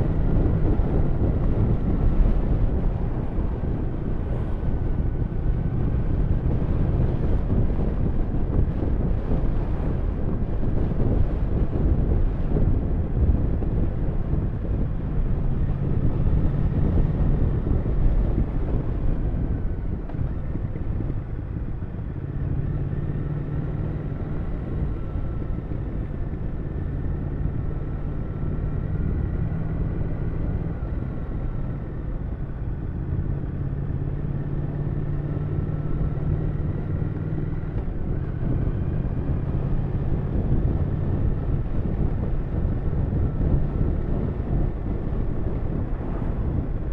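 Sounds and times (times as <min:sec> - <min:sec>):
motorcycle engine running: 0:00.0 - 0:46.9
wind rushing past microphone: 0:00.0 - 0:46.9.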